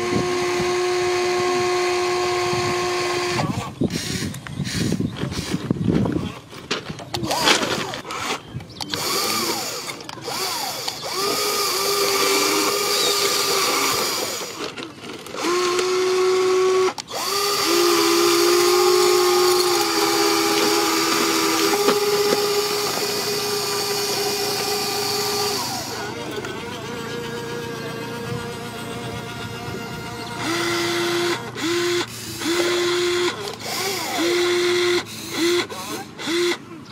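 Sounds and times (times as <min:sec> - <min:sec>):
electric motors whining: 0:00.0 - 0:36.9.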